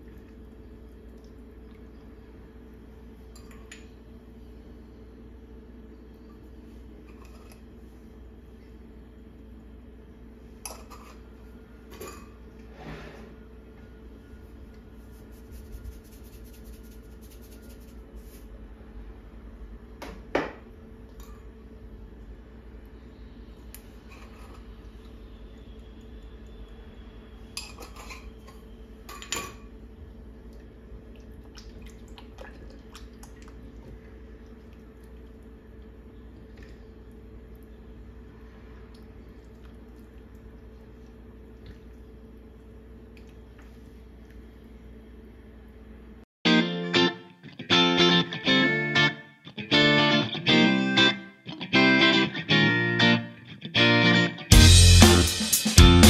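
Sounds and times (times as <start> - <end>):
steady low hum: 0.0 - 46.3.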